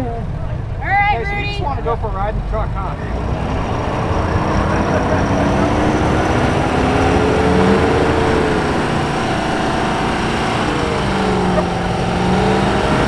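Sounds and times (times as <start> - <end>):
diesel engine under heavy load: 0.0 - 13.0
tyres churning sand: 1.8 - 13.0.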